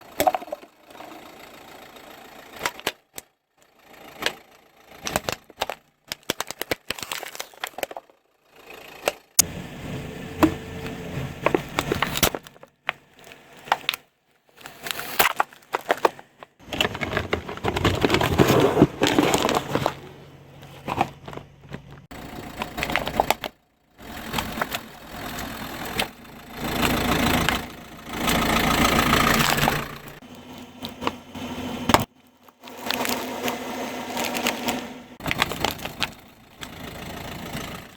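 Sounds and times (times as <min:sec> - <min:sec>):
objects crushed under car: 0:00.0 - 0:09.4, 0:10.4 - 0:37.9
tyres and engine rumble: 0:00.0 - 0:37.9.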